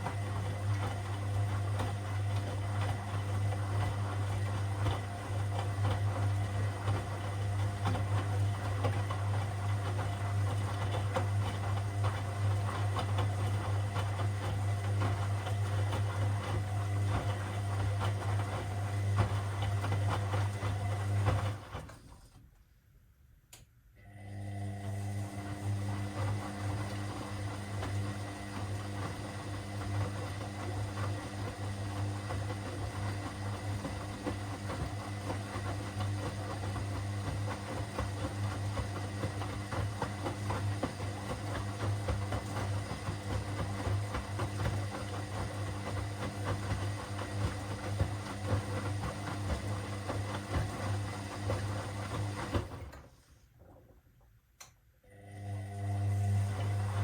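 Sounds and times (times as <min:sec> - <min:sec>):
washing machine running: 0:00.0 - 0:22.4, 0:24.0 - 0:54.0, 0:55.0 - 0:57.0.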